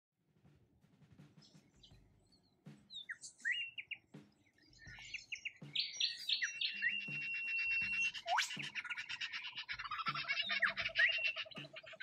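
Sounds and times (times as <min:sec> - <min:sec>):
wild birds chirping and whistling: 0:01.4 - 0:12.0.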